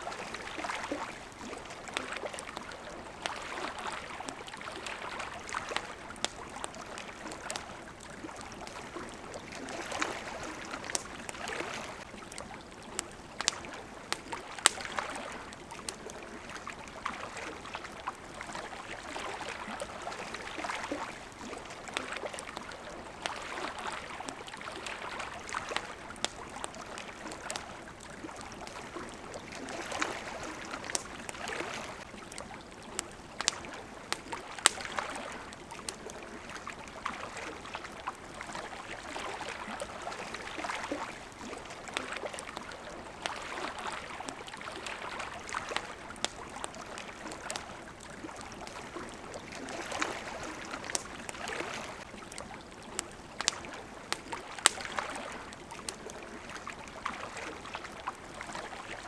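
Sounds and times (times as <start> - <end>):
campfire crackling: 0.0 - 59.0
small waves lapping: 0.0 - 59.0.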